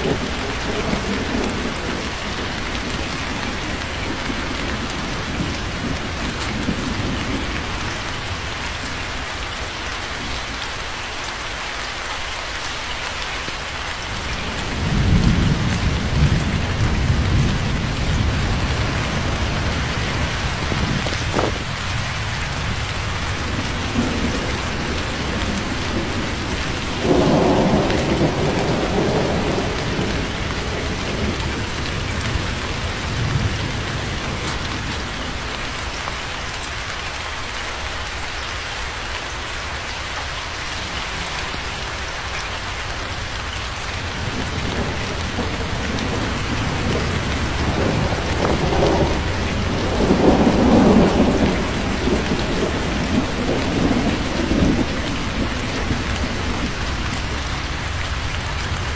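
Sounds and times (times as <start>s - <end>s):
thunder rumbling: 0.0s - 10.6s, 14.1s - 36.3s, 40.8s - 58.9s
steady rain falling: 0.0s - 58.9s.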